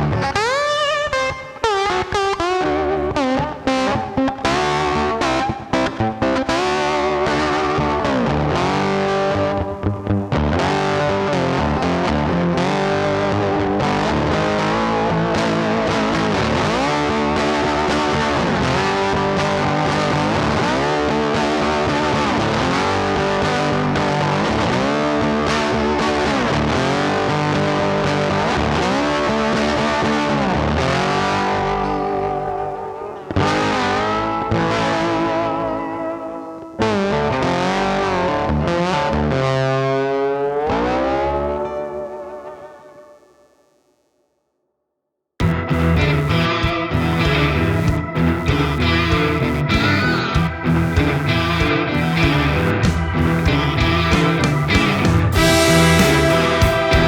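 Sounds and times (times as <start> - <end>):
blues with distorted electric guitar: 0.0 - 44.0, 45.4 - 57.0.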